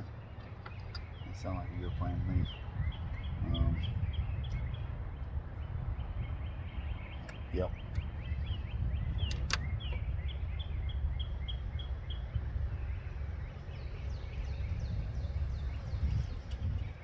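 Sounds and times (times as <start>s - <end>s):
low rumble: 1.1s - 17.0s.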